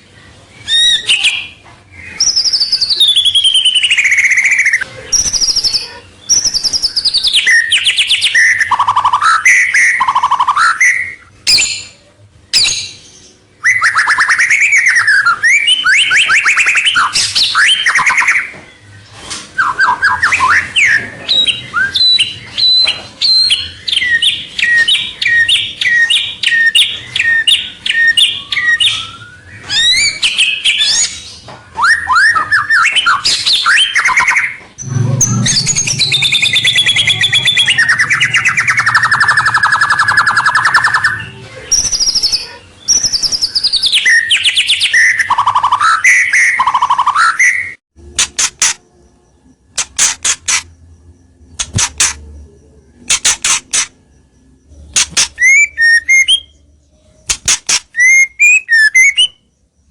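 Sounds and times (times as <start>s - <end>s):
bird singing whistles and trills: 0.5s - 18.9s, 19.6s - 47.8s, 50.5s - 59.9s.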